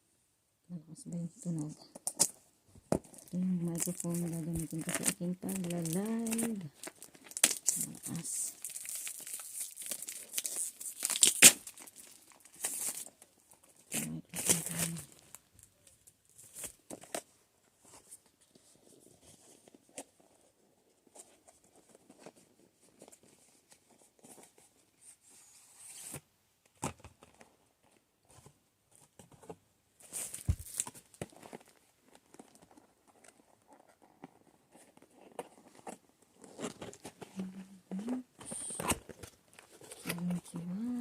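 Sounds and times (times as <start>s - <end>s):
packaging rustling and crinkling: 2.0s - 24.7s, 26.9s - 41.0s.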